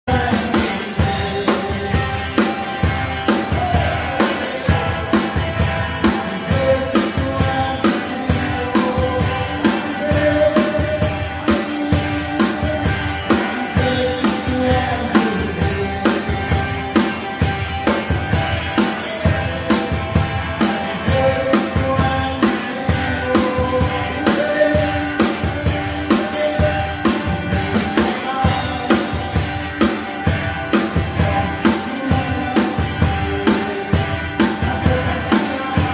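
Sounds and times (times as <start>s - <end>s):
drum kit rock beat: 0.0s - 35.9s
backing music: 0.1s - 35.9s
song with melodic parts: 0.1s - 35.9s.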